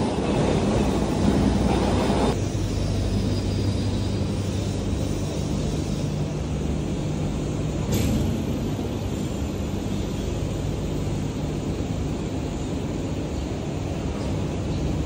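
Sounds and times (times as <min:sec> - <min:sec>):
factory machinery humming: 0:00.0 - 0:15.0.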